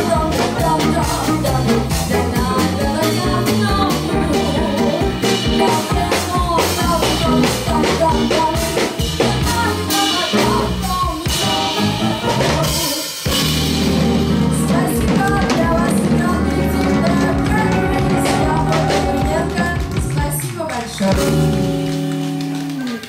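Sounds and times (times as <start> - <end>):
woman singing: 0.0 - 21.6
live band playing: 0.0 - 23.0.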